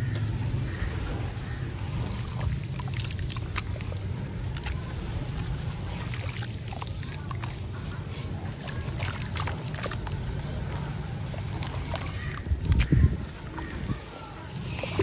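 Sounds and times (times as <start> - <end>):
hands sloshing in muddy water: 0.5 - 15.0
water splashing: 0.5 - 15.0.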